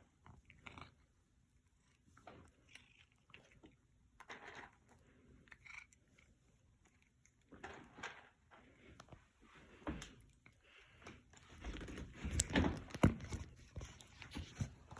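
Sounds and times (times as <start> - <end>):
cat crunching dry treats: 0.1 - 9.1, 10.2 - 14.9.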